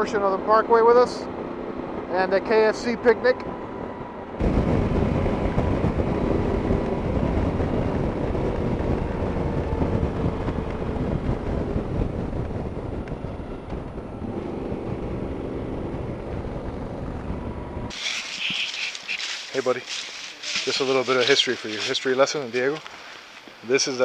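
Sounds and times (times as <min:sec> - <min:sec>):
motorcycle engine drone: 0:00.0 - 0:24.0
wind noise on microphone: 0:00.0 - 0:24.0.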